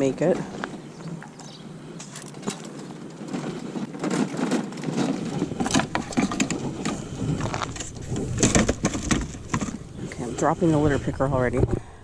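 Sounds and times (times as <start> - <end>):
cart rattling over pavement: 0.0 - 11.8.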